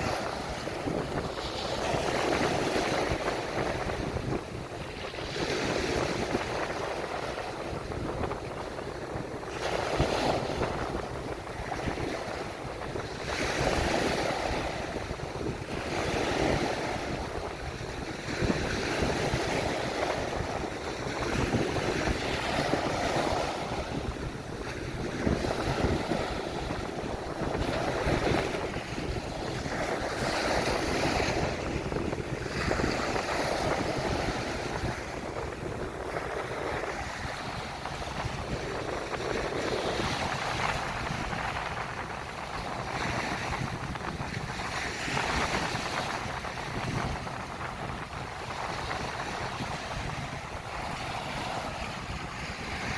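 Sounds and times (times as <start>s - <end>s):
ocean waves breaking on beach: 0.0s - 52.9s.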